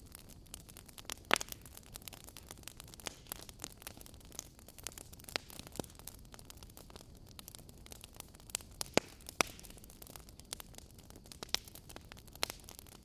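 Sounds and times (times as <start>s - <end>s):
soft steady hiss: 0.0s - 13.0s
wood fire crackling and popping: 0.0s - 13.0s.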